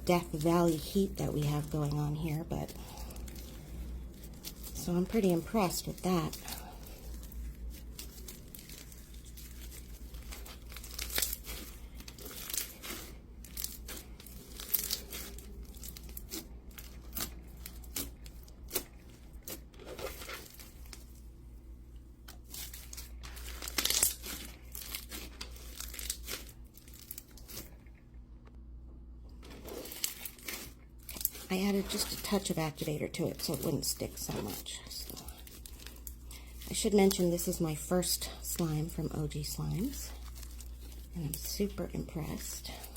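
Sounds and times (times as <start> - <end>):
slime crackling and crinkling: 0.0 - 28.0, 29.3 - 42.9.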